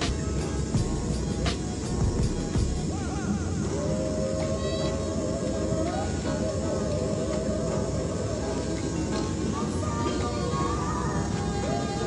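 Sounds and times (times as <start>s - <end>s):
music playing: 0.0s - 12.0s
train rumbling: 0.0s - 12.0s.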